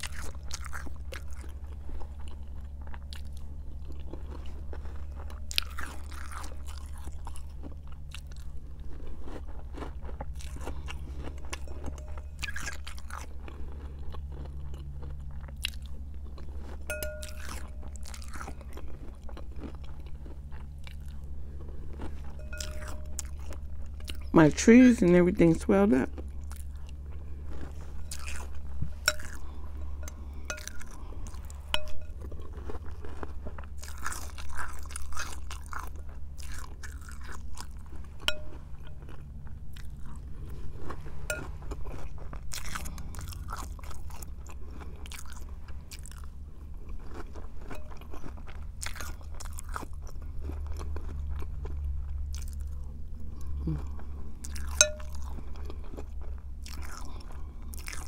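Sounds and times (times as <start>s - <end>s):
cereal crunching: 0.0s - 58.0s.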